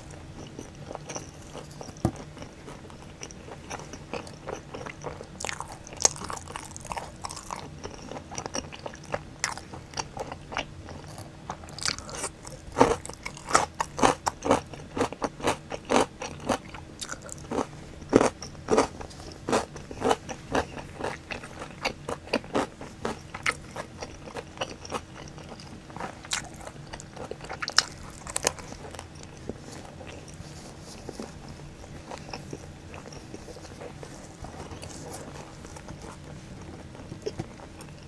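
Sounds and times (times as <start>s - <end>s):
crunchy chewing: 0.0s - 38.0s.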